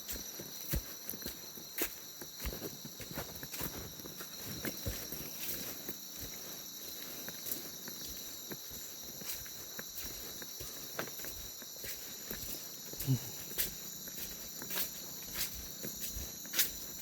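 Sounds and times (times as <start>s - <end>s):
insect chorus buzzing trills: 0.0s - 17.0s
soft steps and rustles: 0.0s - 17.0s.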